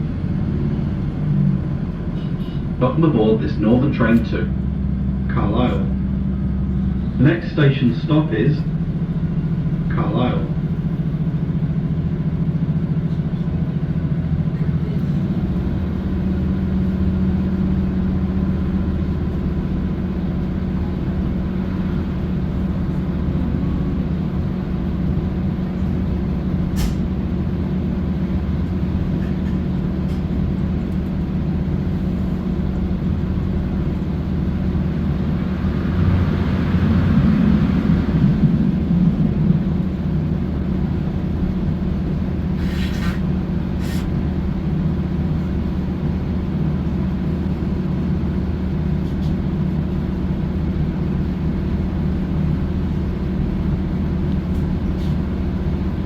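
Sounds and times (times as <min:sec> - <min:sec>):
train drone and rumble: 0:00.0 - 0:56.0.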